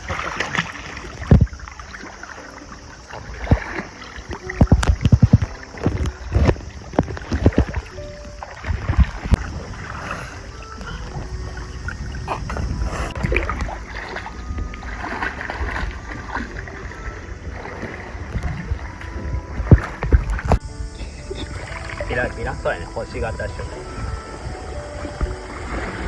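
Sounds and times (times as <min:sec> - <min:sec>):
water sloshing and lapping: 0:00.0 - 0:26.0
wind rumbling on microphone: 0:00.0 - 0:26.0.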